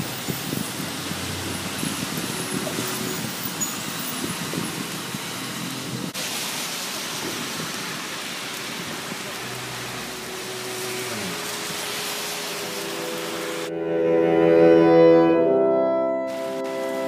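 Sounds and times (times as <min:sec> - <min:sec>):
heavy rain falling: 0:00.0 - 0:13.7, 0:16.3 - 0:17.0.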